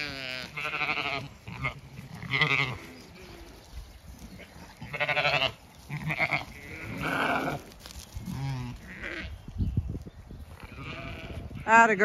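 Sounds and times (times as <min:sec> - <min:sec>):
sheep bleating: 0:00.0 - 0:03.6, 0:04.4 - 0:09.4, 0:10.6 - 0:11.9.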